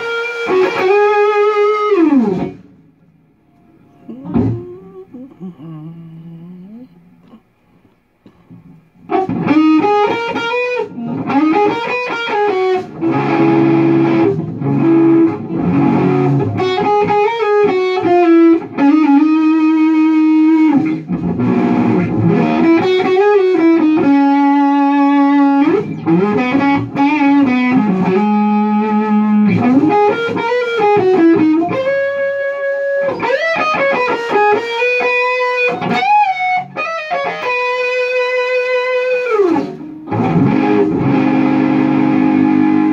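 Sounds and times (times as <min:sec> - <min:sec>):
distorted electric guitar playing rock lead: 0:00.0 - 0:04.9, 0:08.5 - 0:42.9.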